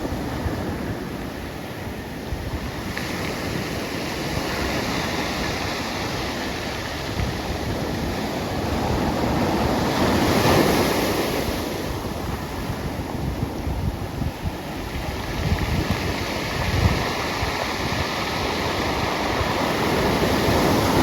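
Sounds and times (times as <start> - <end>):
wind buffeting microphone: 0.0 - 21.0
surf breaking on shore: 2.3 - 21.0.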